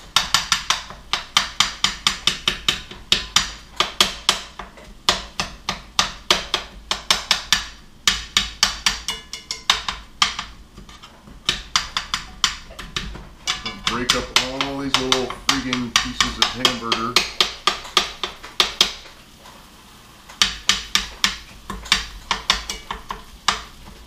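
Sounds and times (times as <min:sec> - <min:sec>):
metal utensil clacking on frying pan: 0:00.2 - 0:19.2, 0:20.3 - 0:24.0.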